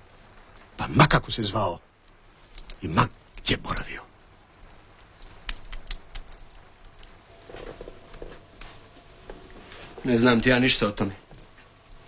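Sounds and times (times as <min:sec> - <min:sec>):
faint rustling: 0:02.1 - 0:12.0.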